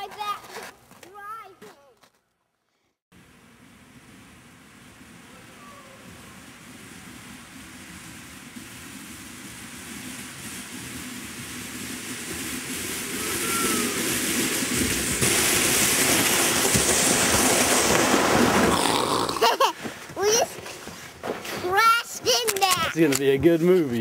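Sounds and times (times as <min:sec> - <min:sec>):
kayak hull hissing over snow: 0:03.2 - 0:24.0.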